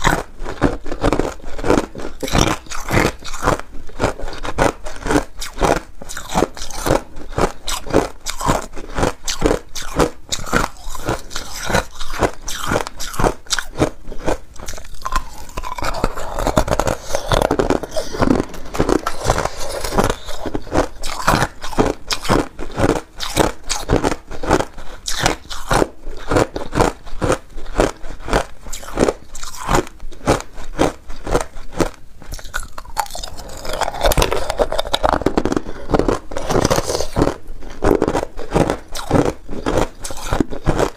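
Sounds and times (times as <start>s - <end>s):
person chewing ice: 0.0s - 40.9s.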